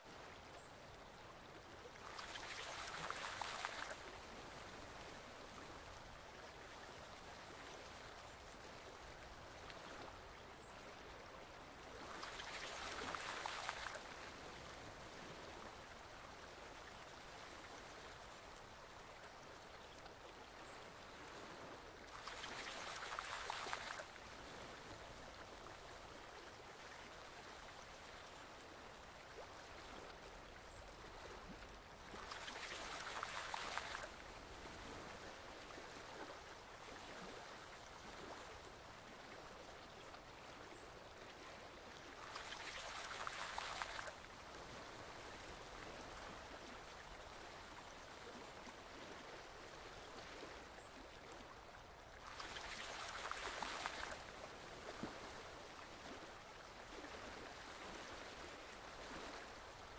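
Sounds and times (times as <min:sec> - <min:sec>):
forest stream flowing gently: 0:00.0 - 0:59.9
rush of water: 0:00.0 - 0:59.9.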